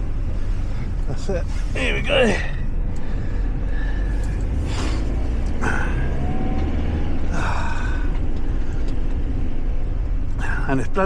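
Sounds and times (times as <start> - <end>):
road rumble: 0.0 - 11.0
van engine running: 0.0 - 11.0.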